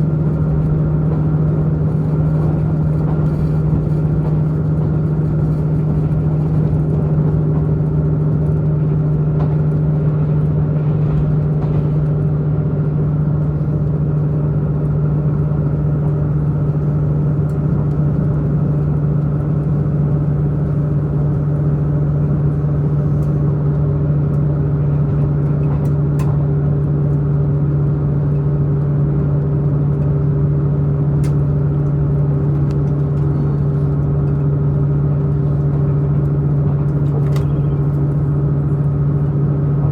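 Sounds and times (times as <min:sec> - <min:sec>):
diesel engine drone: 0:00.0 - 0:39.9
train running rumble: 0:00.0 - 0:39.9.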